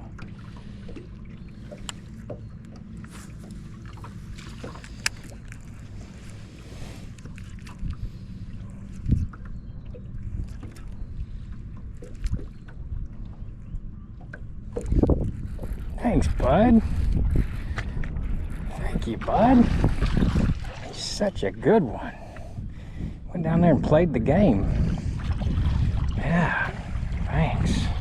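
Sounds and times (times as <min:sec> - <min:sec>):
boat engine low hum: 0:00.0 - 0:28.0.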